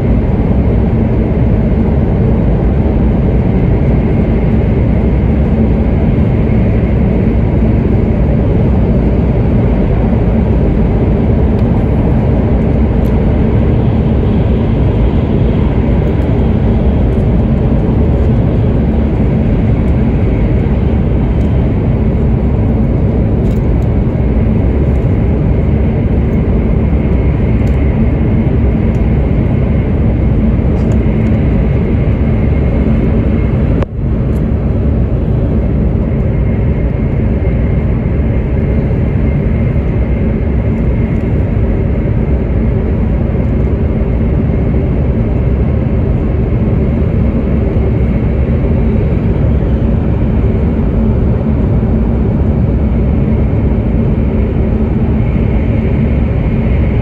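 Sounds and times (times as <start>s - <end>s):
constant low hum: 0.0s - 57.0s.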